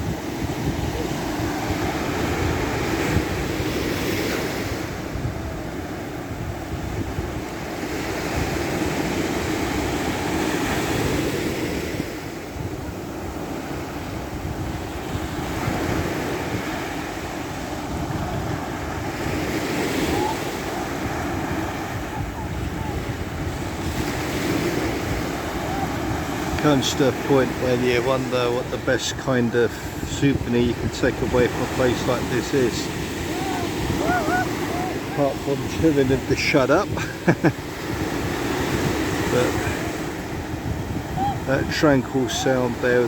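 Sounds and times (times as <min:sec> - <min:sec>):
sea waves breaking on beach: 0:00.0 - 0:43.0
wind buffeting microphone: 0:00.0 - 0:43.0.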